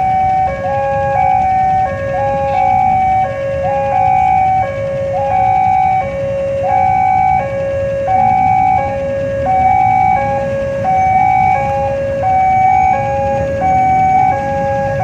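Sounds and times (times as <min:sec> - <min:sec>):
two-tone level crossing alarm: 0:00.0 - 0:15.0.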